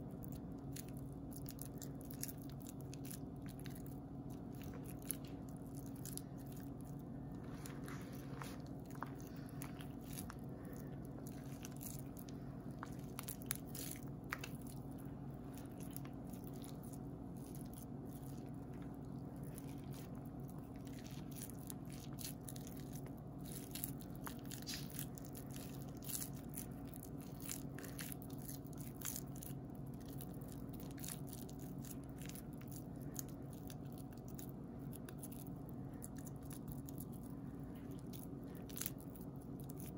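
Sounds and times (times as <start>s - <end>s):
soap shavings crunching: 0.0s - 39.9s
steady low hum: 0.0s - 39.9s.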